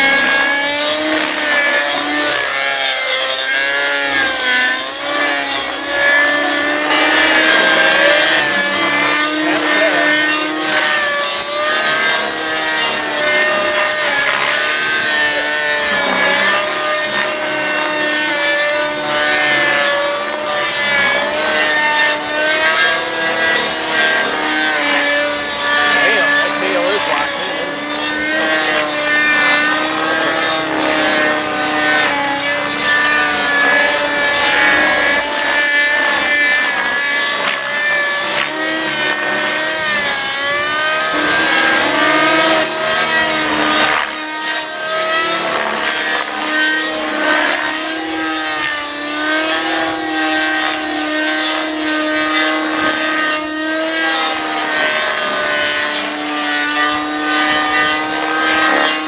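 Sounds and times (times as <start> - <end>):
rc helicopter engine and rotors: 0.0 - 59.0.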